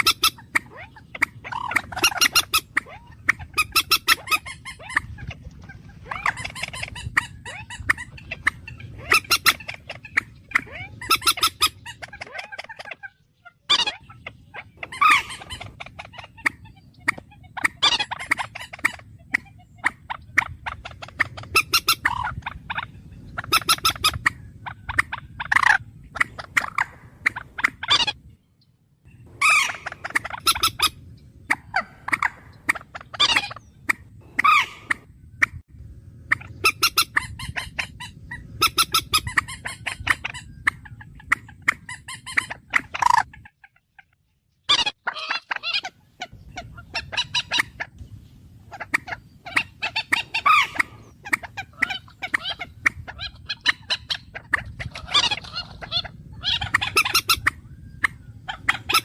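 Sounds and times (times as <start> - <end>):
harsh repeated bird calls: 0.0 - 59.0.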